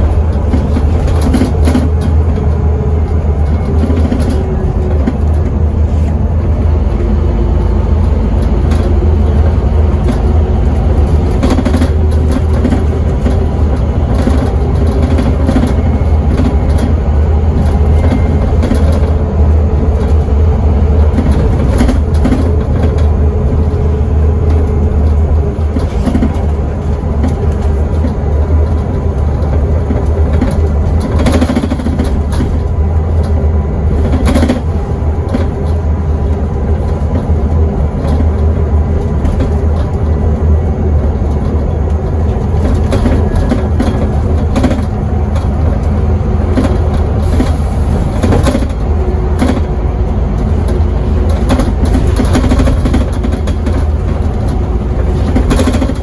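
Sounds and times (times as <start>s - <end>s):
bus body rattling: 0.0s - 56.0s
bus diesel engine droning: 0.0s - 56.0s.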